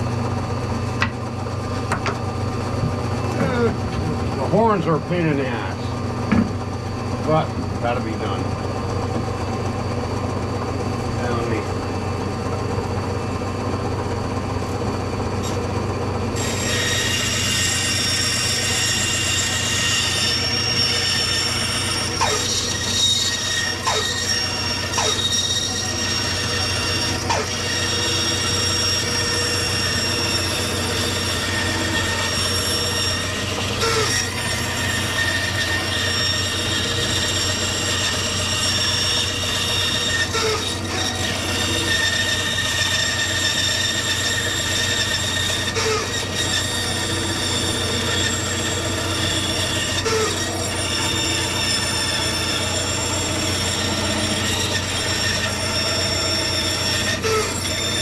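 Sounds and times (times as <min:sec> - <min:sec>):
woodworking power tool whining: 0:00.0 - 0:58.0.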